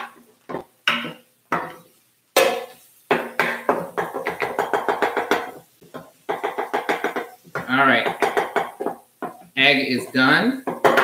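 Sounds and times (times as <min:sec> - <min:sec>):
utensils knocking on skillet: 0:00.0 - 0:11.0.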